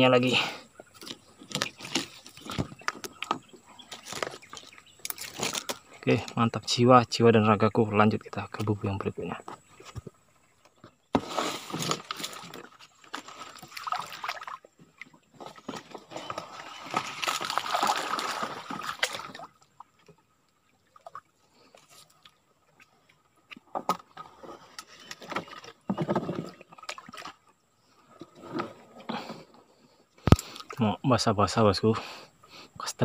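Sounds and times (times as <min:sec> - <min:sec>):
water sloshing around boat: 0:00.0 - 0:06.8, 0:07.4 - 0:30.7.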